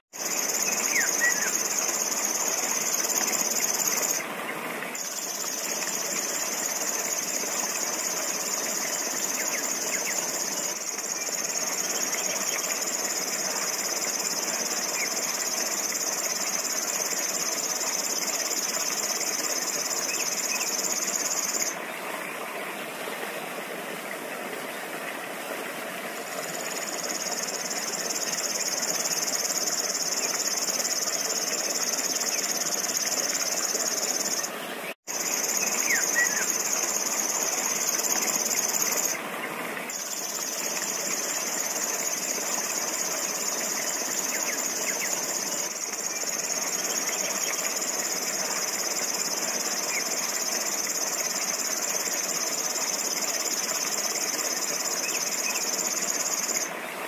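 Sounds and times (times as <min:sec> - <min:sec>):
songbird reeling song: 0:00.1 - 0:57.0.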